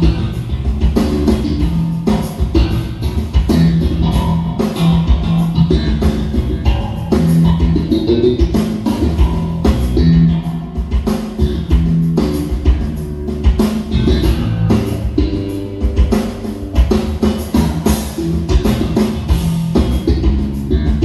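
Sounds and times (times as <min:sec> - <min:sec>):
rock music through a loudspeaker: 0:00.0 - 0:21.0.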